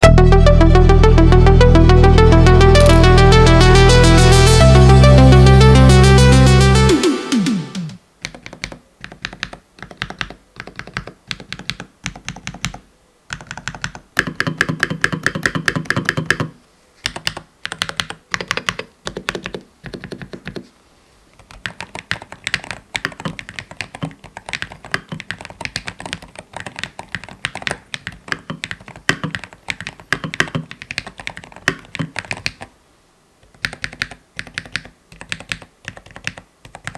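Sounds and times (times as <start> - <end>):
keyboard typing: 0.0 - 20.6, 21.4 - 32.7, 33.4 - 36.9.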